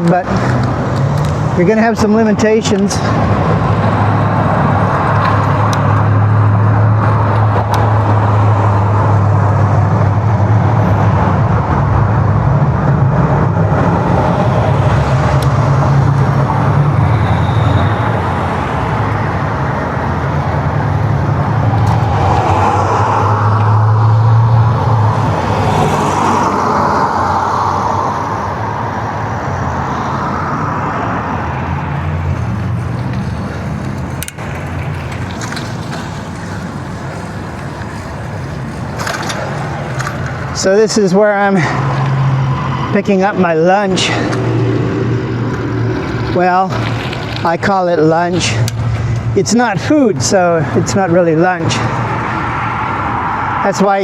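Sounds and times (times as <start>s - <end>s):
engine hum: 0.0s - 54.0s
road and traffic noise: 0.0s - 54.0s.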